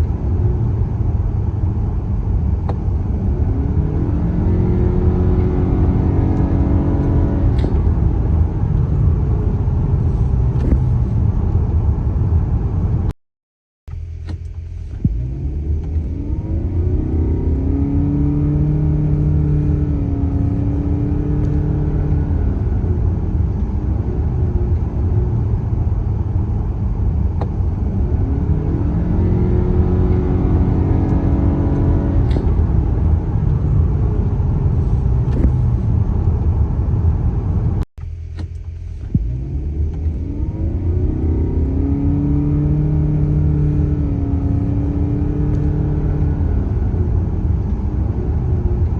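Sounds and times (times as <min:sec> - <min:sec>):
car engine accelerating: 0:00.0 - 0:13.1, 0:13.9 - 0:48.9
road rumble: 0:00.0 - 0:13.2, 0:13.9 - 0:48.9.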